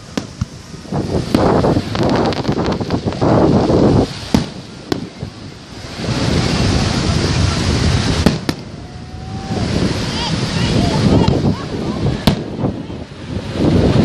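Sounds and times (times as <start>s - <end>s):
fireworks bangs: 0.0s - 14.0s
wind buffeting microphone: 0.0s - 14.0s.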